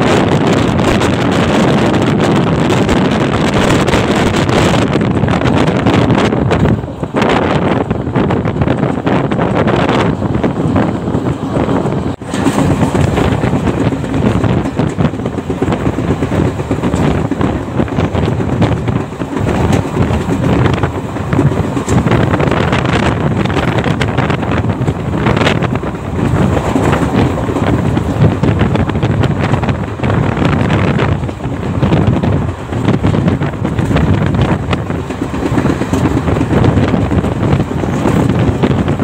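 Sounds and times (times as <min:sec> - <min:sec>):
train wheels rumbling on rails: 0:00.0 - 0:39.0
wind buffeting microphone: 0:00.0 - 0:39.0.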